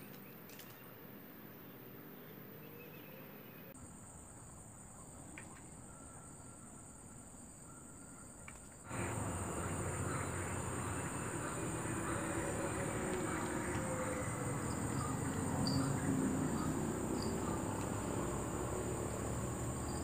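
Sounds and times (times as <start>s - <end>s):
insect chorus buzzing: 1.6s - 20.0s.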